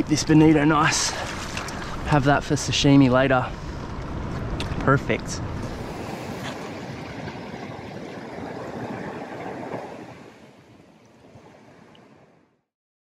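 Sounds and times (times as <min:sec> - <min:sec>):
ocean surf against rocks: 0:00.0 - 0:12.5.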